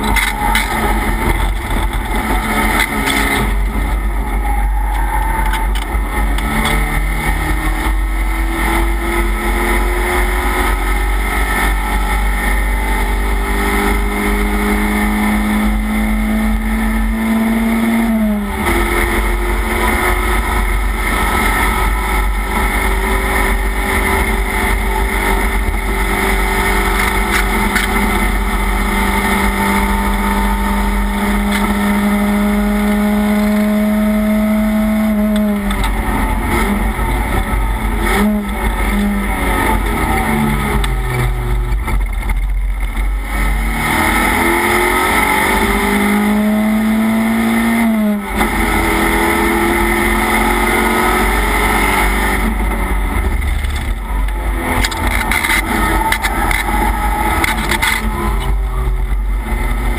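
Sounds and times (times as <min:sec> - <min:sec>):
race car engine at high revs: 0:00.0 - 0:59.9
road and wind noise: 0:00.0 - 0:59.9.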